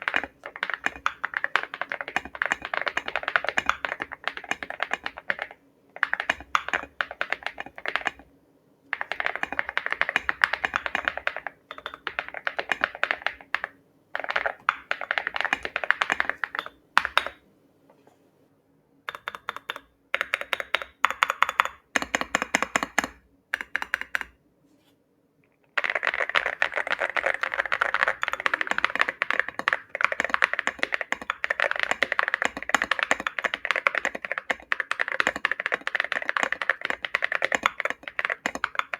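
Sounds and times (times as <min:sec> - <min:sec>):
mechanical keyboard typing: 0:00.0 - 0:08.3, 0:08.9 - 0:17.4, 0:19.1 - 0:24.4, 0:25.7 - 0:38.9.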